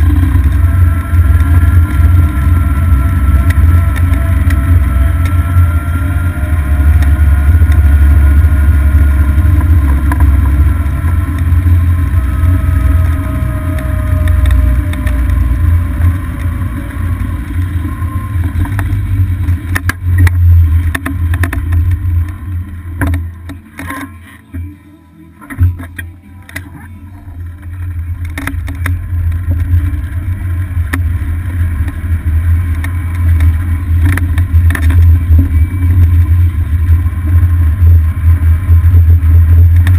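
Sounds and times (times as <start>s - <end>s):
wind buffeting and rumble: 0.0s - 23.6s, 27.2s - 39.9s
faint falling whine: 0.0s - 39.9s
golf cart running: 0.0s - 39.9s.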